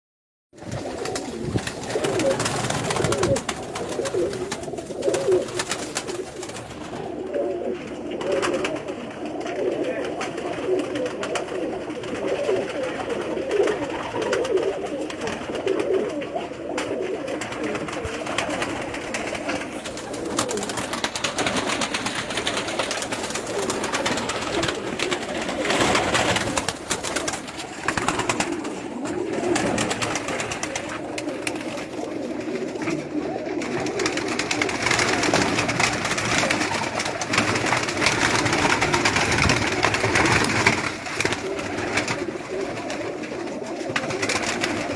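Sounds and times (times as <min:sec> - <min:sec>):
pigeons cooing: 0:00.6 - 0:44.9.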